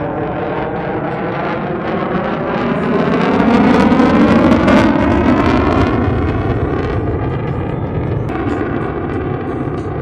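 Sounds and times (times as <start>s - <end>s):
jet engine roaring with crackle: 0.0s - 10.0s.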